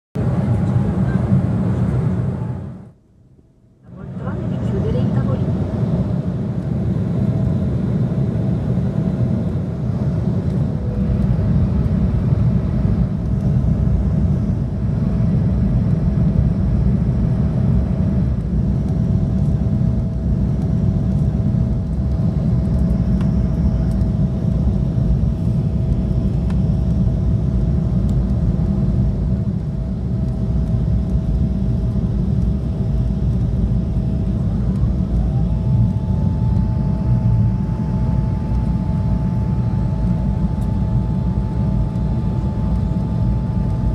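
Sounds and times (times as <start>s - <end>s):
airliner cabin rumble: 0.2s - 3.1s, 3.9s - 43.9s.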